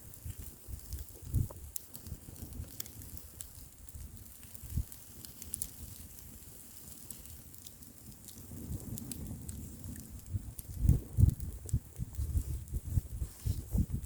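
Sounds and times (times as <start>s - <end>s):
wind buffeting microphone: 0.0s - 6.4s, 8.0s - 14.0s
bonfire crackling and popping: 0.0s - 14.0s.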